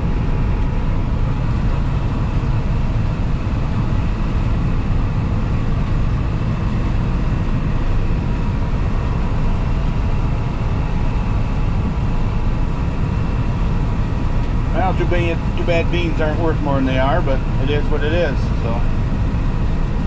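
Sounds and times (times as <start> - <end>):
combine engine rumble: 0.0 - 20.0.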